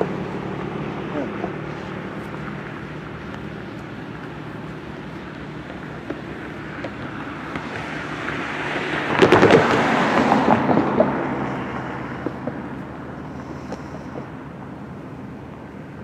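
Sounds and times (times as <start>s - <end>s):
diesel locomotive rumble: 0.0s - 16.0s
rushing noise: 0.0s - 16.0s.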